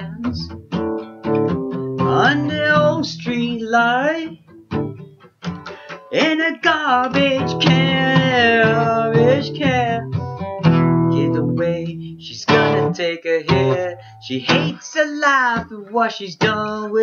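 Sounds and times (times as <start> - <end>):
man singing: 0.0 - 0.6, 2.0 - 4.4, 5.7 - 17.0
acoustic guitar strumming: 0.0 - 17.0.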